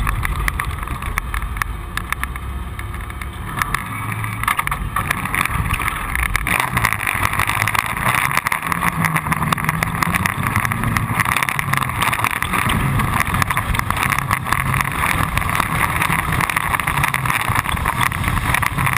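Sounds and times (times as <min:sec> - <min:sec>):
knocks and clicks from rough surface: 0:00.0 - 0:18.9
truck engine revving: 0:00.0 - 0:18.9
wind and road noise: 0:00.0 - 0:18.9.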